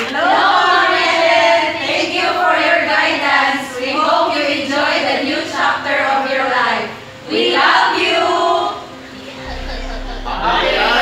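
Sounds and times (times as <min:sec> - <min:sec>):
women singing together: 0:00.0 - 0:09.4.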